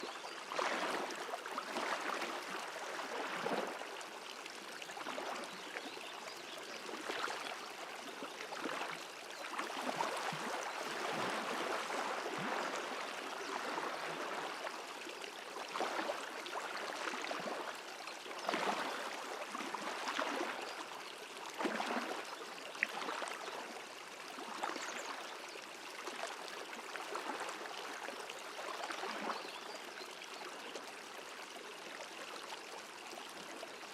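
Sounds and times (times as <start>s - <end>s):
small stream flowing: 0.0s - 33.9s.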